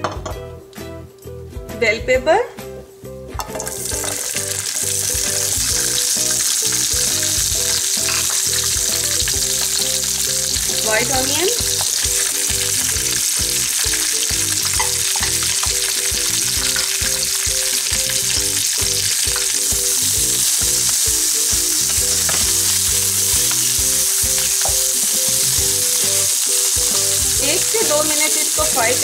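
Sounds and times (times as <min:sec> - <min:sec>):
vegetables sizzling in oil: 0:03.4 - 0:29.0.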